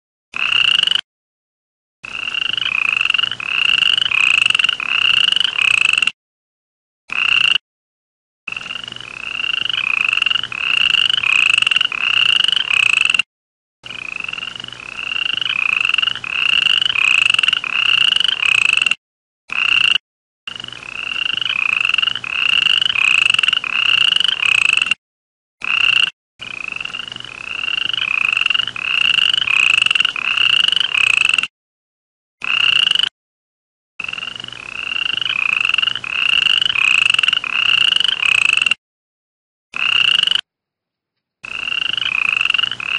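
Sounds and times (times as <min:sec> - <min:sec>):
frog croaking: 0:00.4 - 0:01.0, 0:02.0 - 0:06.2, 0:07.1 - 0:07.6, 0:08.5 - 0:13.2, 0:13.8 - 0:25.0, 0:25.6 - 0:31.5, 0:32.4 - 0:33.1, 0:34.0 - 0:38.8, 0:39.7 - 0:40.5, 0:41.4 - 0:42.9.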